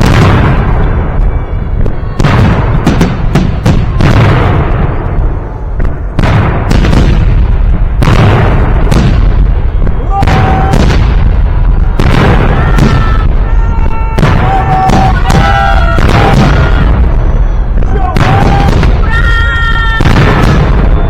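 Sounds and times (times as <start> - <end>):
fireworks booming: 0.0 - 21.0.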